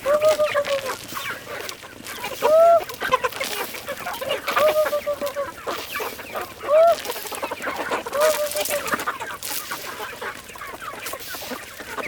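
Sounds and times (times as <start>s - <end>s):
chickens clucking: 0.0s - 12.0s
drawn-out hen calls: 0.0s - 12.0s.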